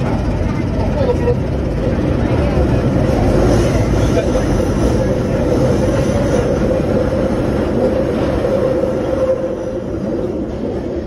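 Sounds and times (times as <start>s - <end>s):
underground train rumbling in tunnel: 0.0s - 11.0s.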